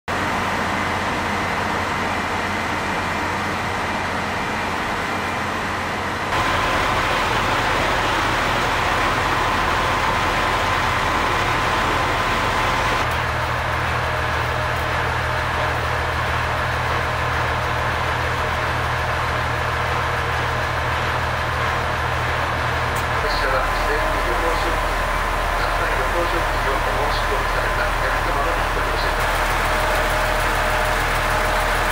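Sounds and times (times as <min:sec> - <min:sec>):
train engines idling: 0:00.1 - 0:31.9
station background noise: 0:01.3 - 0:19.0, 0:19.6 - 0:31.9.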